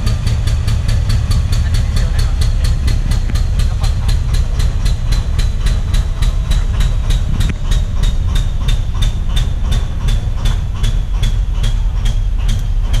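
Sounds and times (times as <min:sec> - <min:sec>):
diesel engine idling rumble: 0:00.0 - 0:13.0
sharp metallic ticking: 0:00.0 - 0:13.0.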